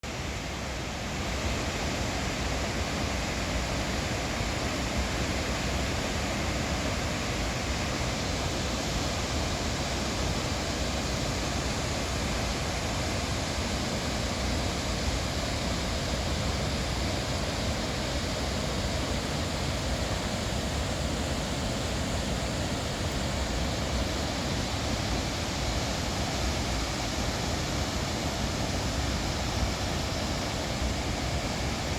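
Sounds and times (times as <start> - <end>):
waterfall rushing: 3.5 - 31.9.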